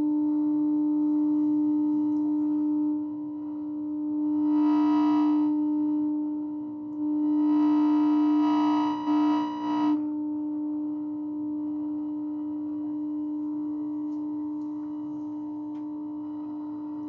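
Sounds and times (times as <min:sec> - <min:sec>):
harsh buzzy tone: 0:00.0 - 0:17.0
television electronic hum: 0:00.0 - 0:17.0.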